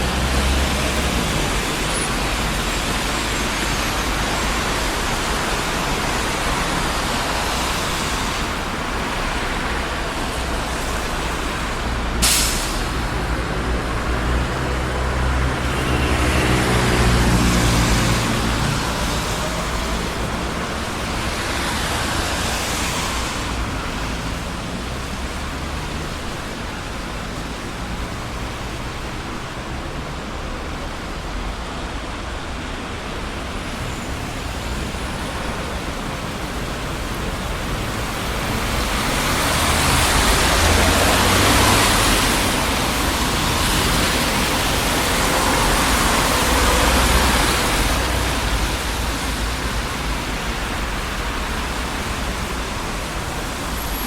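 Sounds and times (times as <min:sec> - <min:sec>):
busy street traffic: 0:00.0 - 0:54.0.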